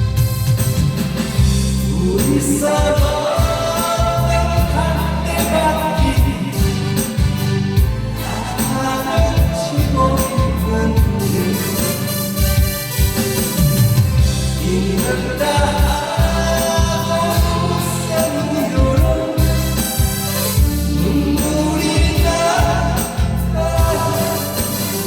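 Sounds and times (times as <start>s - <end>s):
steady bass beat: 0.0s - 25.0s
person singing: 1.8s - 13.7s, 14.3s - 25.0s.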